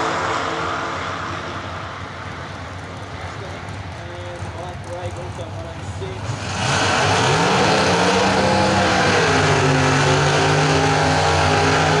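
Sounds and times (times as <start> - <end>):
engine at high revs: 0.0 - 2.2, 2.8 - 12.0.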